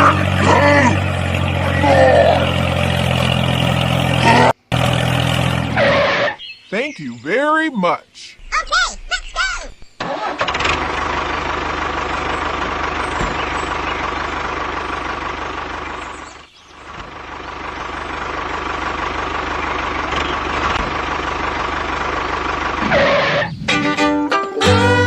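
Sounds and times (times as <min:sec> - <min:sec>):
truck engine running: 0:00.0 - 0:06.4, 0:08.4 - 0:24.9.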